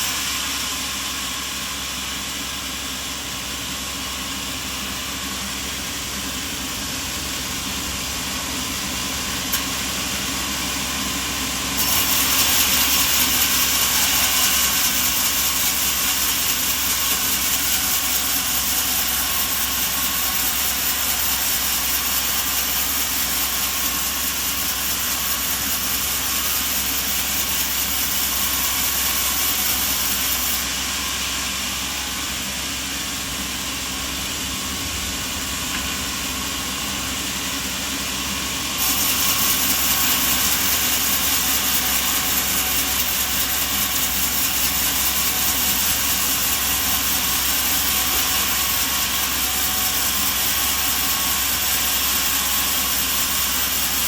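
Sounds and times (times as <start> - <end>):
machinery hissing drone: 0.0 - 54.0.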